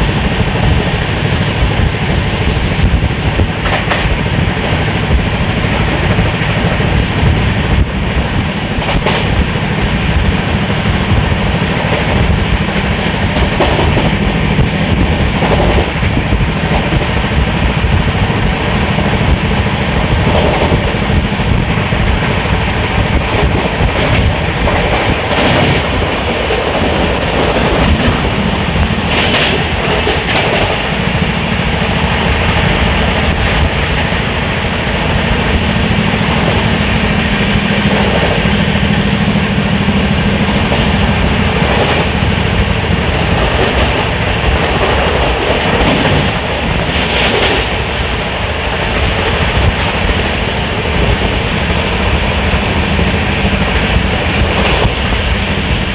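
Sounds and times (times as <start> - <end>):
rushing air: 0.0 - 55.9
train clattering: 0.0 - 55.9
train wheels on rails: 0.0 - 55.9.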